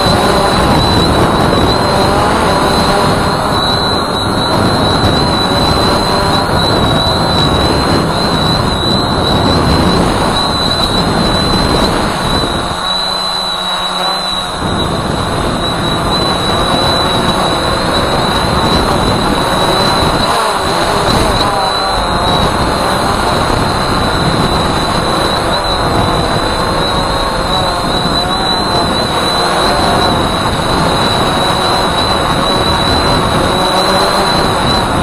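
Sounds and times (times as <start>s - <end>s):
drone propellers rushing: 0.0s - 35.0s
high motor whine: 0.0s - 35.0s.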